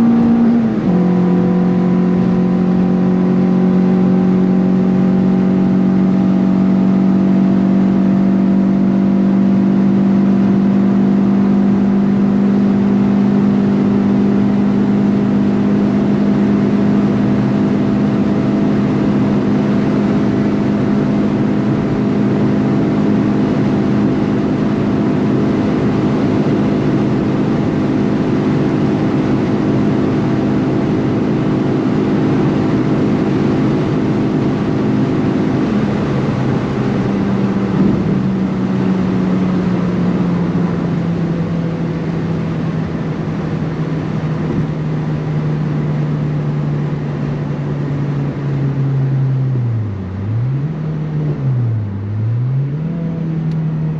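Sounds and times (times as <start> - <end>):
car engine drone at high revs: 0.0 - 53.9
wind and tyre noise: 0.0 - 53.9.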